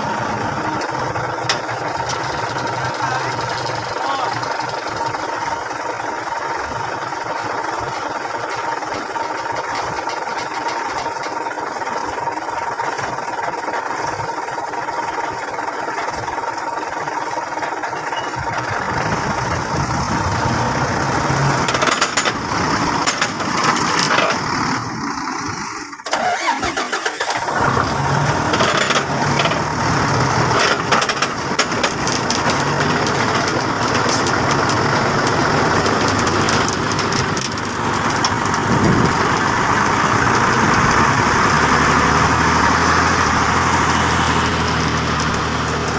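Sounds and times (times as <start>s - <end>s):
truck engine running: 0.0s - 45.9s.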